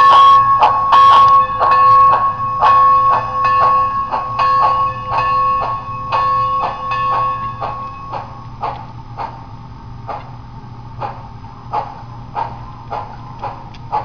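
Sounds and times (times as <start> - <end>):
model train wheels clicking: 0.0 - 9.4, 11.0 - 14.0
steady whine: 0.0 - 14.0.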